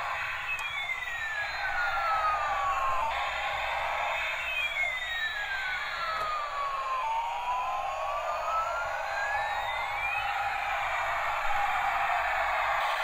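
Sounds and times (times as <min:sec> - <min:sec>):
toy whistling tone: 0:00.0 - 0:13.0.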